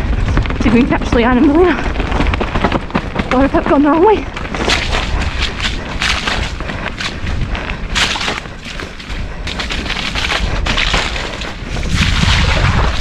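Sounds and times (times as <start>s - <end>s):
bike knocking and rattling: 0.0s - 13.0s
bike tyres over mud and roots: 0.0s - 13.0s
wind rumbling on microphone: 0.0s - 13.0s.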